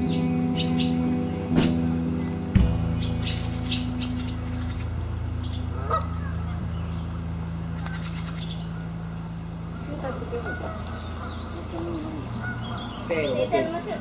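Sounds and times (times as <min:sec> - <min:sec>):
swallows twittering: 0:00.0 - 0:01.8, 0:02.8 - 0:14.0
steady low hum: 0:00.0 - 0:14.0.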